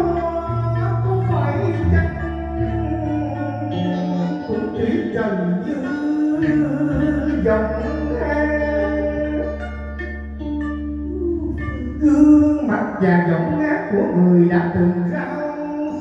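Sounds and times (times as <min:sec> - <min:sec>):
man singing: 0:00.0 - 0:10.1, 0:11.0 - 0:16.0
plucked strings and bass music: 0:00.0 - 0:16.0.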